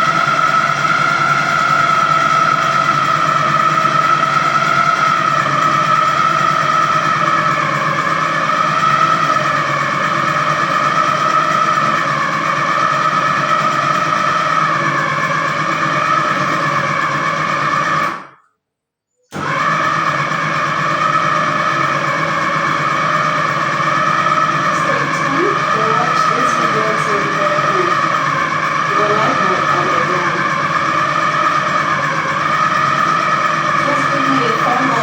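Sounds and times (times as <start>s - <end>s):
blender motor running: 0.0s - 18.4s, 19.3s - 35.0s.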